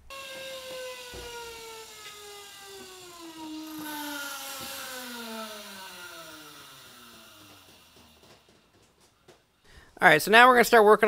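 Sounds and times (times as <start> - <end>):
car lift whine: 0.0 - 9.6.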